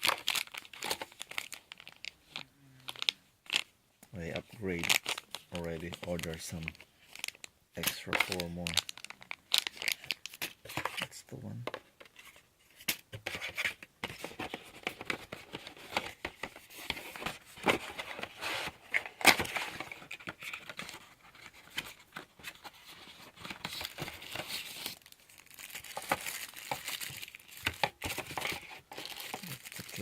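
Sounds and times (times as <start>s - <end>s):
plastic packaging crinkling: 0.0s - 11.1s, 15.0s - 30.0s.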